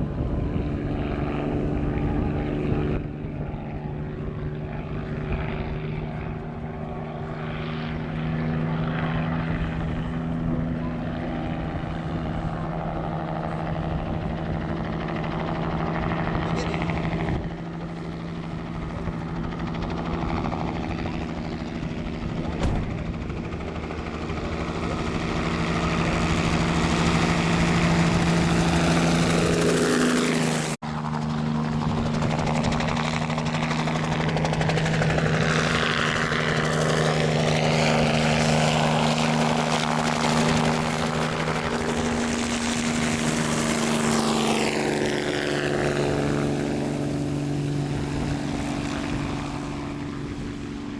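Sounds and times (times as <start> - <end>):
helicopter engine and rotor drone: 0.0 - 50.9.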